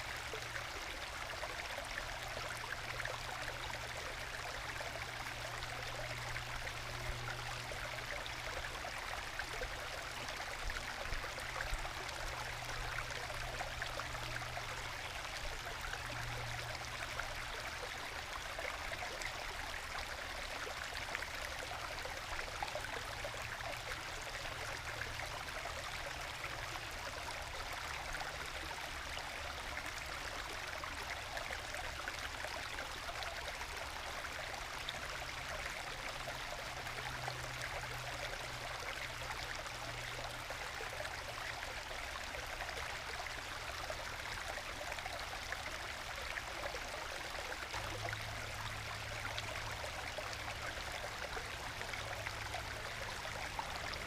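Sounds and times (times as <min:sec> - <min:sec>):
stream babbling and gurgling: 0:00.0 - 0:54.0.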